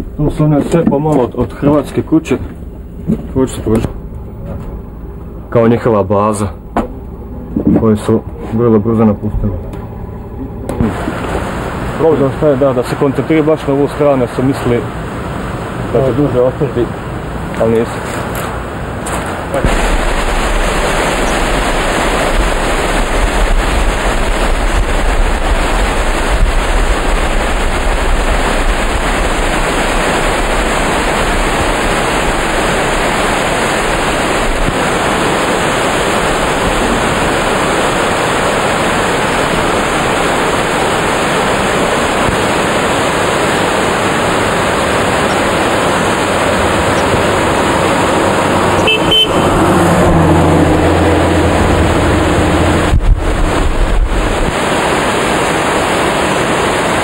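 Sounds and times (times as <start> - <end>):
low steady hum: 0.0 - 55.6
waterfall rushing: 9.9 - 57.0.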